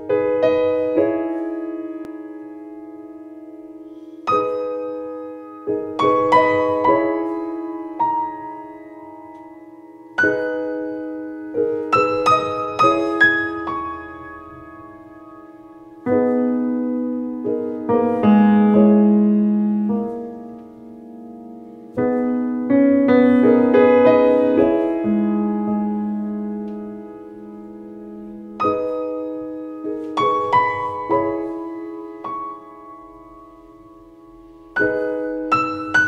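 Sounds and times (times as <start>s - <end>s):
slow piano music: 0.0s - 36.0s.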